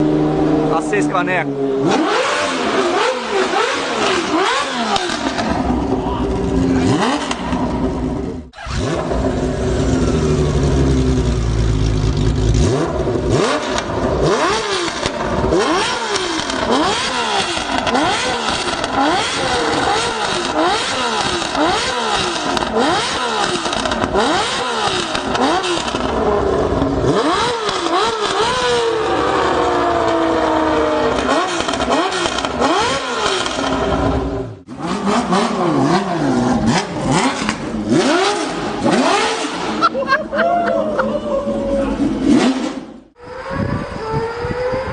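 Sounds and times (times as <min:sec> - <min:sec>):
motorcycle engine revving: 0:00.0 - 0:40.2, 0:41.4 - 0:44.9.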